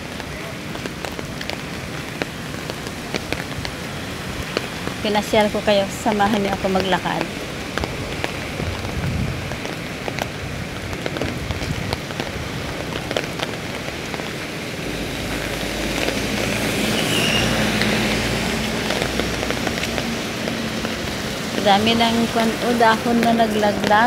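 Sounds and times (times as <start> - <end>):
rain pattering on umbrella: 0.0 - 24.0
vehicle passing on wet road: 0.0 - 24.0.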